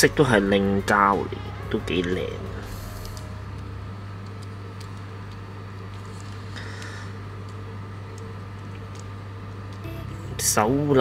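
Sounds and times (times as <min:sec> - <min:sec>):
low room tone hum: 0:00.0 - 0:11.0.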